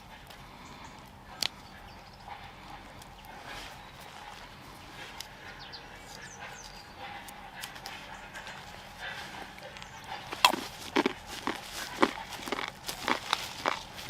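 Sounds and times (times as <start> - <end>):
dry leaves and husks rustling: 0.0 - 14.0.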